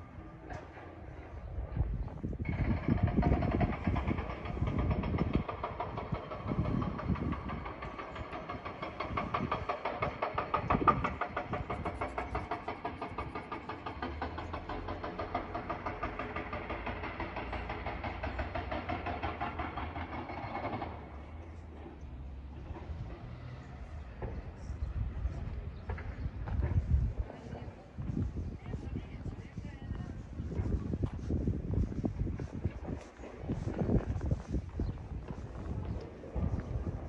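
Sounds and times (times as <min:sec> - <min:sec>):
low rumbling: 0:00.0 - 0:37.0
engine idling chugging: 0:02.0 - 0:37.0.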